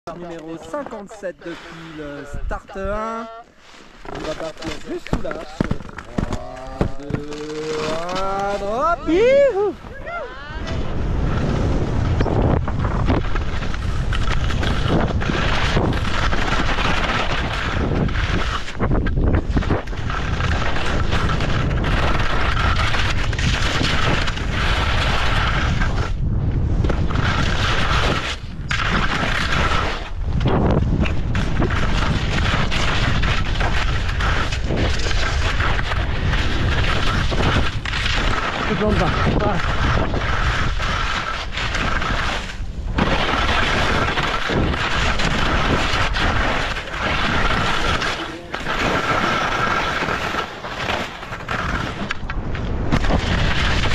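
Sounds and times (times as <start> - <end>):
skis scraping over crusty snow: 0.1 - 53.9
wind rumble on microphone: 4.0 - 53.9.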